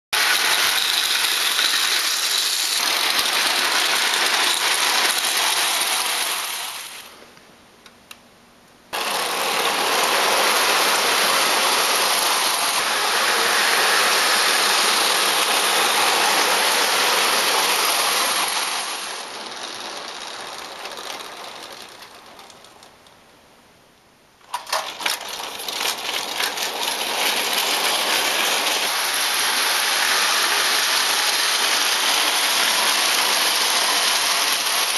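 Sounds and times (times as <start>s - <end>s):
clockwork motor whirring: 0.2s - 7.2s, 8.9s - 22.9s, 24.5s - 34.9s
toy train rattling on track: 0.2s - 7.2s, 8.9s - 23.2s, 24.4s - 34.9s.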